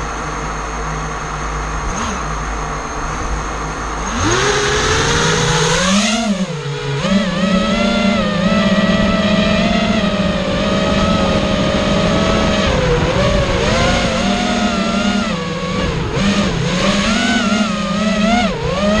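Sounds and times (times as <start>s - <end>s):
quadcopter propellers buzzing whine: 0.0s - 19.0s.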